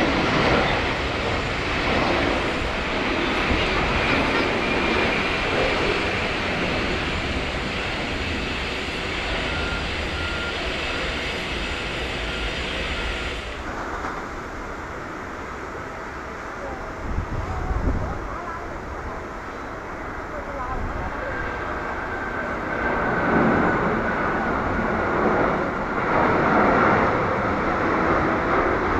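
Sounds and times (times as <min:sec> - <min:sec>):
airport background noise: 0:00.0 - 0:28.9
jet engines roaring: 0:00.0 - 0:28.9.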